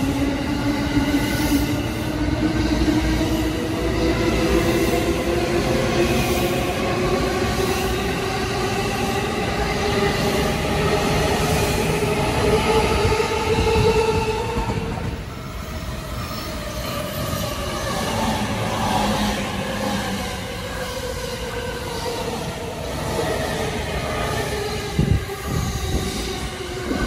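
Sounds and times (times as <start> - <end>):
approaching train rumble: 0.0 - 27.0.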